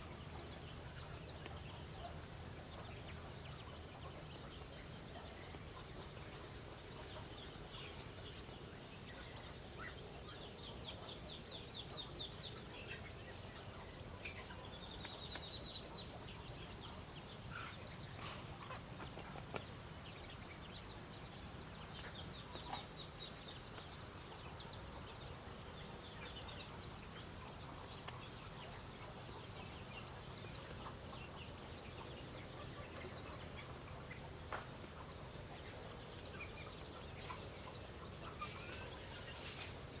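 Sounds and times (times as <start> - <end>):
faint outdoor hum: 0.0 - 40.0.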